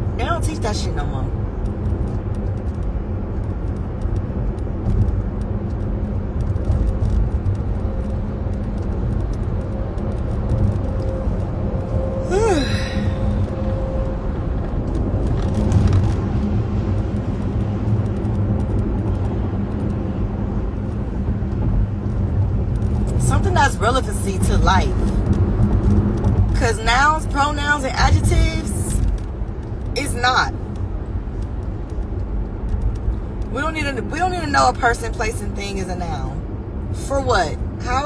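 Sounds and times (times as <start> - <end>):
faint hum: 0.0 - 38.0
low rumble: 0.0 - 38.0.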